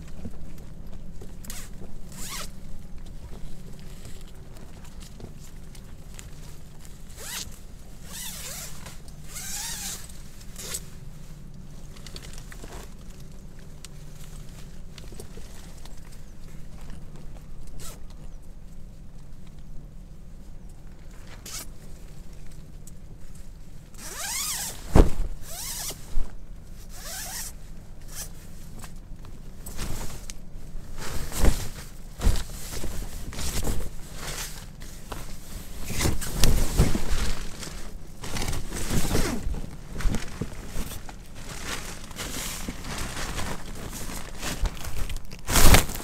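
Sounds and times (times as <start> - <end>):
scraping and rustling handling noises: 0.0 - 46.0.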